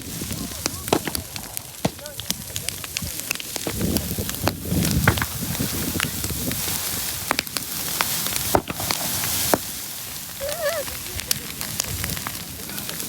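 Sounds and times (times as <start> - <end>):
bonfire flames hissing: 0.0 - 13.0
fire popping and cracking: 0.0 - 13.0.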